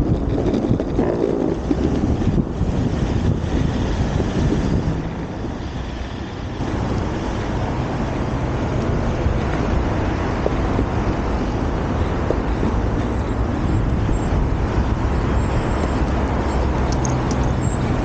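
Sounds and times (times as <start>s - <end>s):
skateboard rolling over asphalt: 0.0s - 18.0s
wind buffeting microphone: 0.0s - 18.0s.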